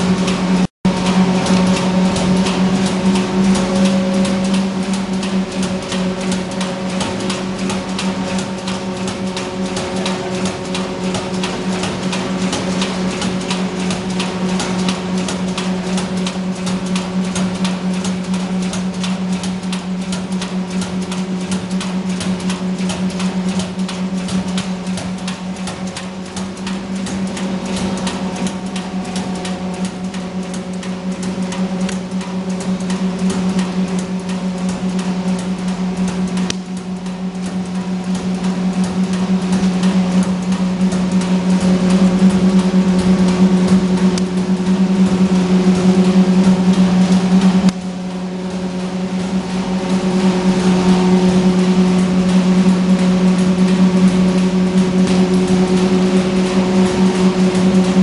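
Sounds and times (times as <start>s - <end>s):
machine electric hum: 0.0s - 58.0s
machine mechanism clatter: 0.0s - 58.0s.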